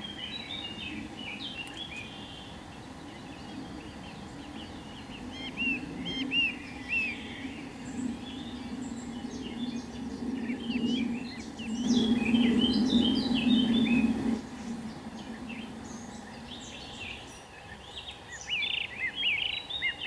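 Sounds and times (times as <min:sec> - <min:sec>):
low hum: 0:00.0 - 0:17.6
small birds chirping: 0:00.0 - 0:20.0.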